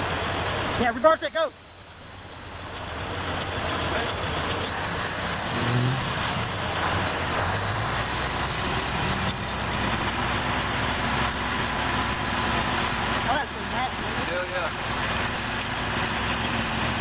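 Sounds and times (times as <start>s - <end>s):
diesel engine working under load: 0.0s - 17.0s.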